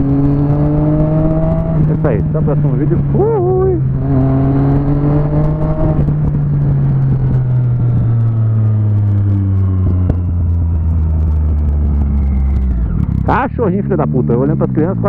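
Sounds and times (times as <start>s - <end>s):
motorcycle engine droning: 0.0s - 15.0s
wind noise: 0.0s - 15.0s.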